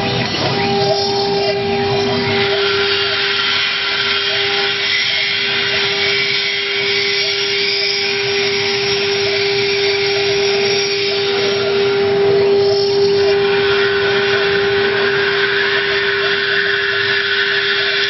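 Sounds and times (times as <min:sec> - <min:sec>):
router spindle high whine: 0:00.0 - 0:18.0
bit cutting hiss: 0:00.5 - 0:18.0.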